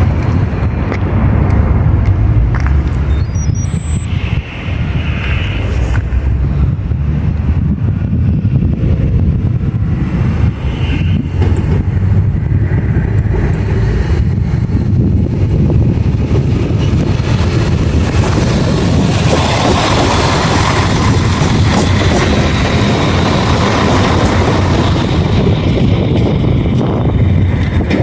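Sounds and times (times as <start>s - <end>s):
train rumbling: 0.0s - 28.0s
wheel-on-rail noise: 5.2s - 28.0s.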